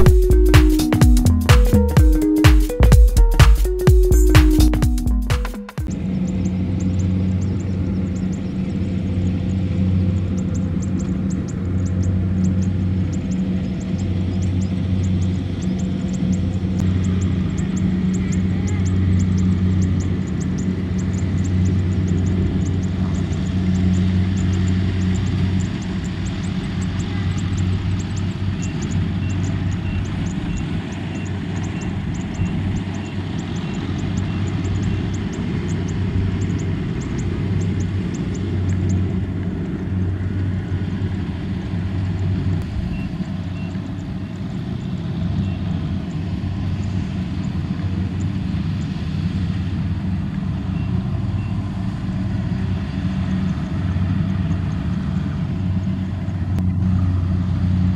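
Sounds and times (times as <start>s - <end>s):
tractor diesel engine droning: 6.0s - 57.9s.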